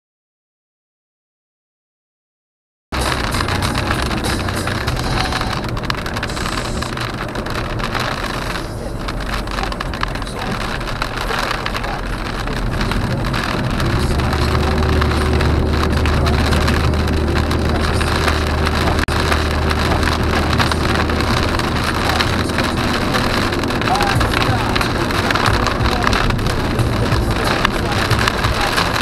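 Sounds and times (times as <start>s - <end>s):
road and tyre noise: 2.9s - 29.0s
low car drone: 3.0s - 29.0s
rain on windscreen: 3.0s - 29.0s.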